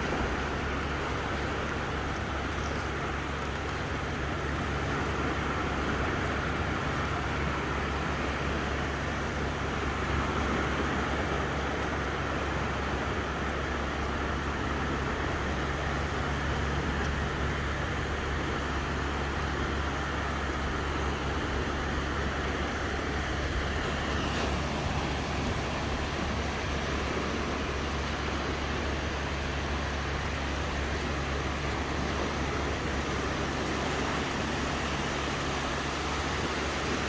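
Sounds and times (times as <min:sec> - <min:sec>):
sea waves washing ashore: 0:00.0 - 0:37.0
wind: 0:00.0 - 0:37.0.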